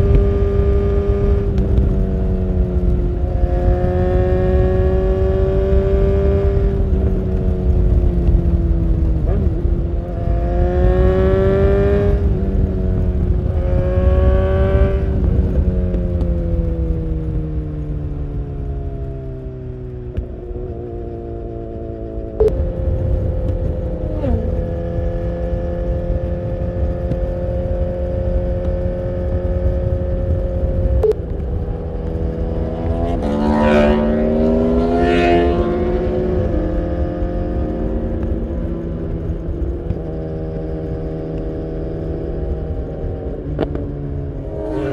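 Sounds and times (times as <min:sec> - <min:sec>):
motorcycle engine revving: 0:00.0 - 0:44.9
wind rumble: 0:00.0 - 0:44.9.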